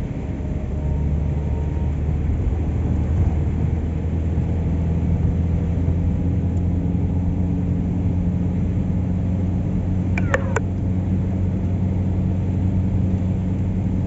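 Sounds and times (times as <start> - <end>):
car engine and tyre noise on wet road: 0.0 - 14.0.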